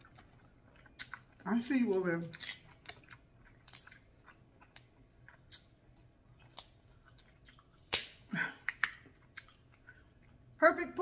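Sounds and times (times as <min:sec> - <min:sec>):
chewing: 0:00.0 - 0:08.0, 0:08.6 - 0:10.5.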